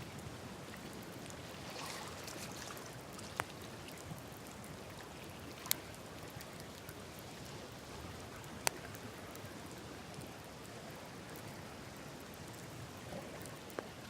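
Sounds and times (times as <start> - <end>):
campfire hissing and crackling: 0.0 - 14.0.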